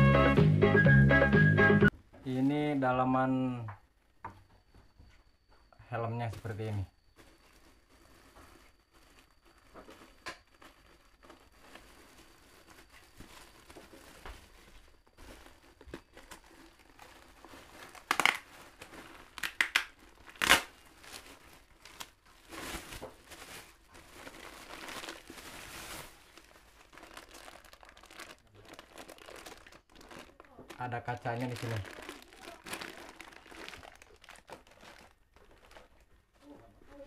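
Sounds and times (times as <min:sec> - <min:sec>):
plastic wrap crinkling: 0:06.3 - 0:37.0.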